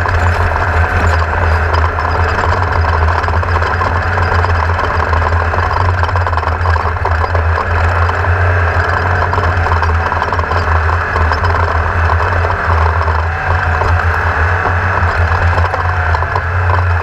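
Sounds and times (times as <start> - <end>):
race vehicle engine running: 0.0 - 17.0.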